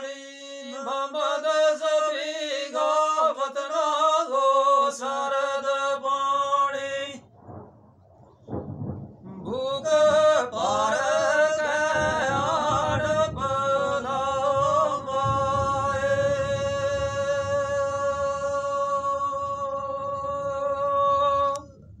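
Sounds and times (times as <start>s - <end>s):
men singing unaccompanied: 0.0s - 7.2s, 9.5s - 21.8s.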